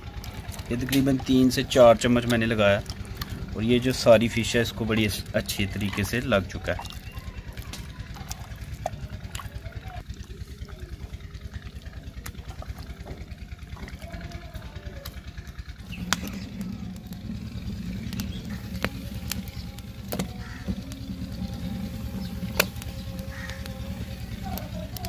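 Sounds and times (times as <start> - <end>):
burning wood snapping: 0.0 - 25.0
small engine thumping: 0.0 - 25.0.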